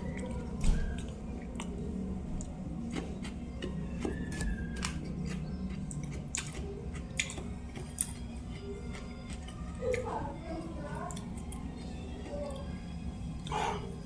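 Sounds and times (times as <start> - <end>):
chewing with mouth clicks: 0.0 - 10.3, 10.9 - 14.0
low steady hum: 0.0 - 14.0.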